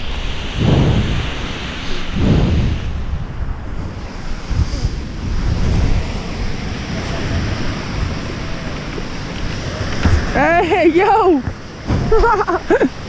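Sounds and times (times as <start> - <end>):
small surf breaking: 0.0 - 12.4
wind buffeting microphone: 0.0 - 13.0.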